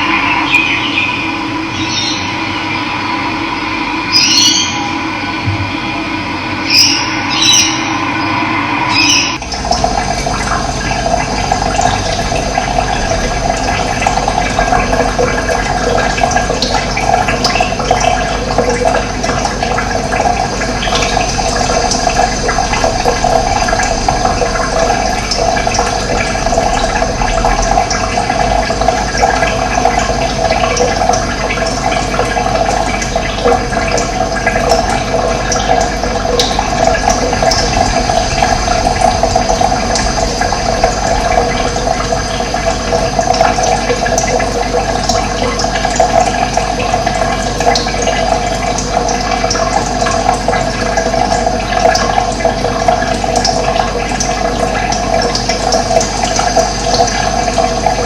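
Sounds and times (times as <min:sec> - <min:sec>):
running water flowing: 0:00.0 - 0:58.0.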